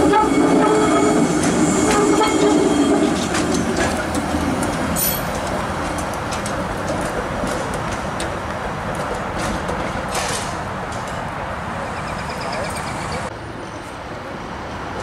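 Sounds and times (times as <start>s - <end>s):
streetcar rolling over track: 0.0s - 15.0s.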